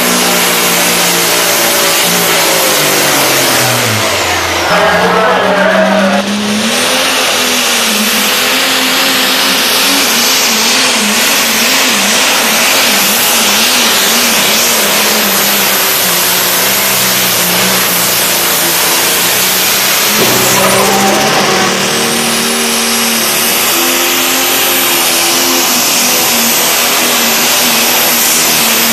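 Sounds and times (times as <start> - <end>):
diesel tractor engine under load: 0.0 - 28.9.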